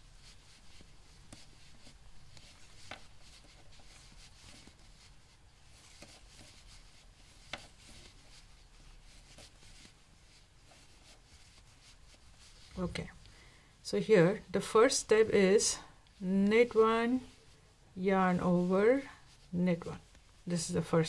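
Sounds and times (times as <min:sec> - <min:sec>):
knitting needles rubbing and clicking: 0:00.0 - 0:13.2, 0:14.2 - 0:21.0.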